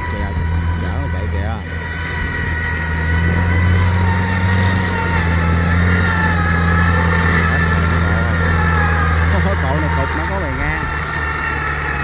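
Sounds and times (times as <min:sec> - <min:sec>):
thin whine: 0:00.0 - 0:12.0
tractor engine running: 0:00.0 - 0:12.0.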